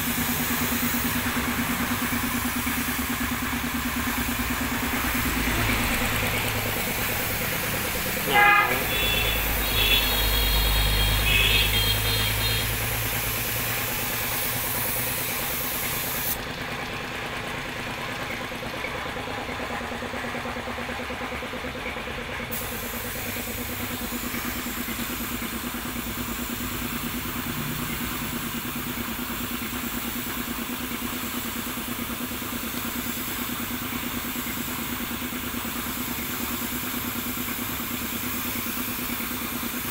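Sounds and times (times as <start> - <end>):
paint spray gun hissing: 0.0 - 16.5, 21.8 - 39.9
air compressor running: 0.0 - 39.9.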